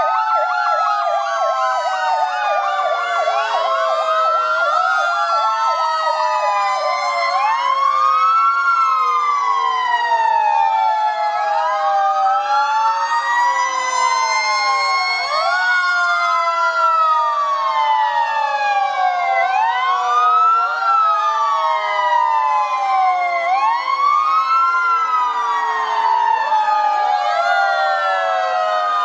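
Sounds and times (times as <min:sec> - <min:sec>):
fire engine sirens wailing: 0:00.0 - 0:29.0.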